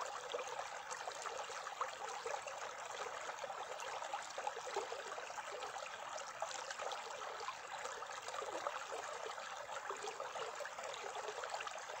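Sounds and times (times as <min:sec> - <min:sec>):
stream burbling over stones: 0:00.0 - 0:12.0.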